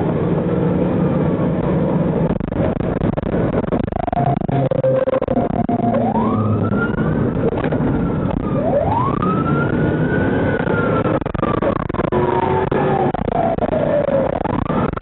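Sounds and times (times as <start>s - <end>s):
moving vehicle noise: 0.0s - 15.0s
police siren wailing: 2.5s - 15.0s.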